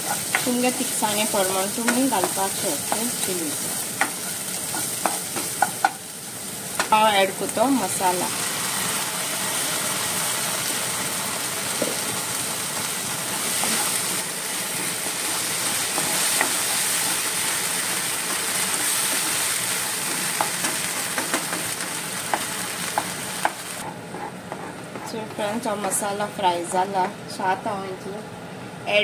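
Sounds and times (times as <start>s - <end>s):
spice paste sizzling in oil: 0.0s - 25.1s.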